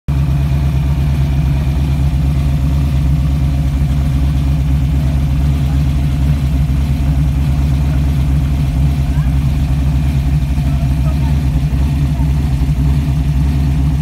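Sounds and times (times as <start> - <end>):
car engine idling: 0.1 - 14.0.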